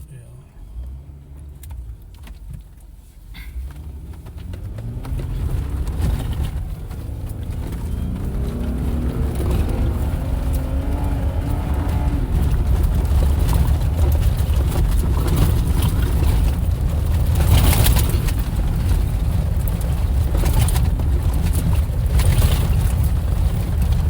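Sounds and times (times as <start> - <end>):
off-road vehicle engine under load: 0.0 - 24.0
knocks and rattles: 1.5 - 24.0.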